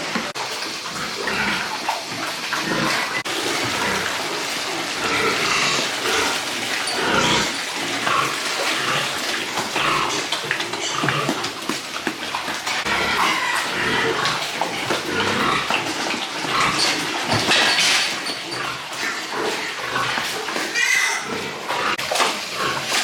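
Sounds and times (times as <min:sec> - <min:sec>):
pigs grunting: 0:00.0 - 0:23.0
water running and splashing: 0:00.0 - 0:23.0.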